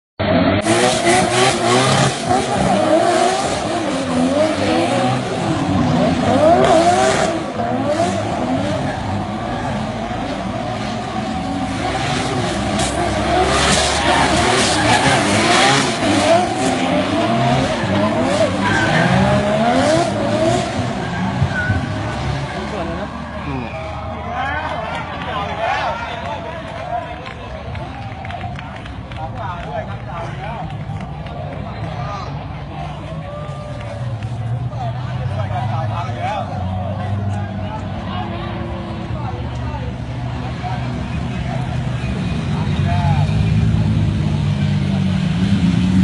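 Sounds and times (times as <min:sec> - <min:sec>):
racing car engines revving: 0:00.2 - 0:46.0.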